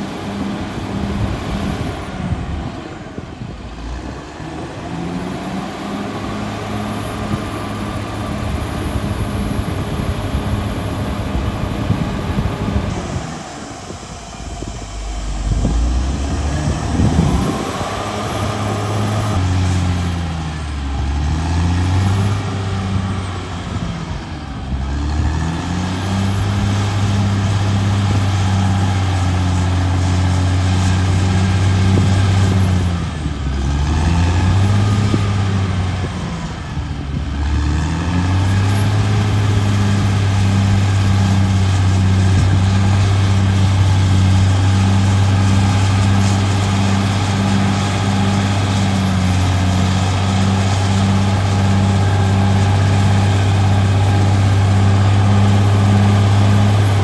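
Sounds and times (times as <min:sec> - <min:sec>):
bulldozer diesel engine running hard: 0:00.0 - 0:57.0.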